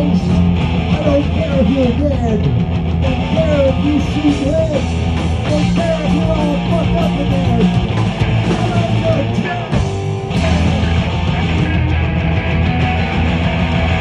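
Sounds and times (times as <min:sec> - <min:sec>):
electric guitar: 0:00.0 - 0:14.0
punk rock band playing loud: 0:00.0 - 0:14.0.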